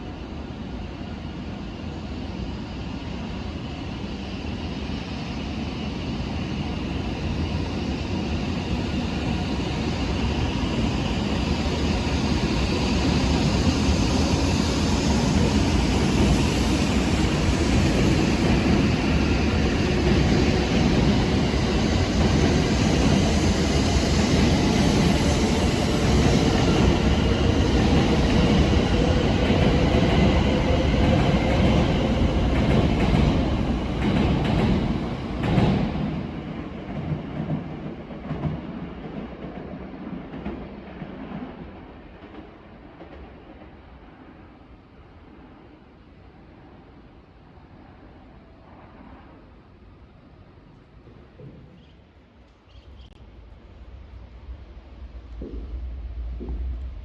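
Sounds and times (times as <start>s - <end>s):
train rumble and hiss: 0.0s - 57.0s.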